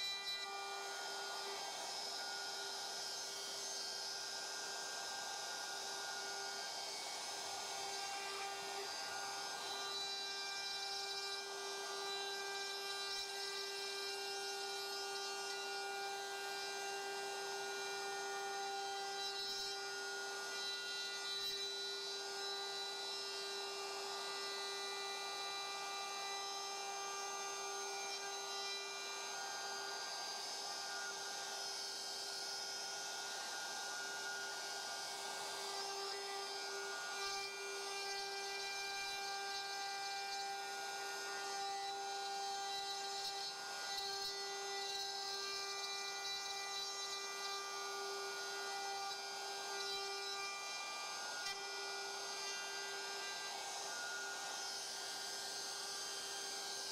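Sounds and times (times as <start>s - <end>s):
router cutting wood: 0.0s - 56.9s.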